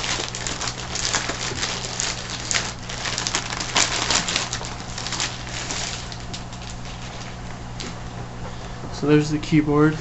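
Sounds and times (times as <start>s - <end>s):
plastic packaging rustling: 0.0s - 8.0s
steady low hum: 0.0s - 10.0s.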